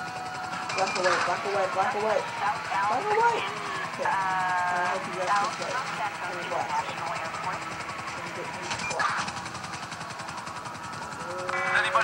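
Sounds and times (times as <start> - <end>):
pulsing video game vehicle noise: 0.0 - 12.0.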